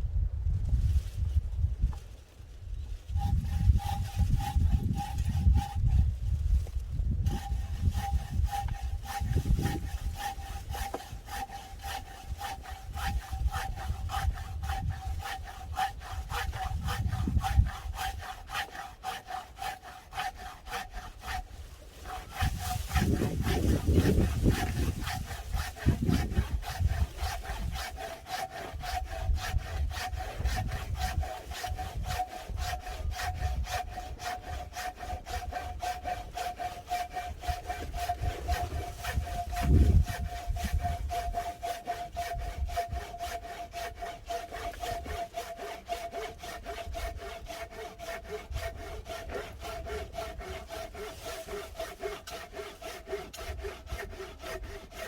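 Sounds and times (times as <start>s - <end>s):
hand saw cutting wood: 3.2s - 55.0s.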